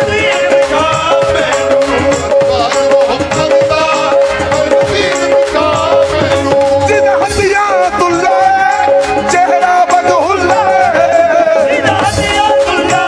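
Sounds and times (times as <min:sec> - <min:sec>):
hand percussion: 0:00.0 - 0:13.0.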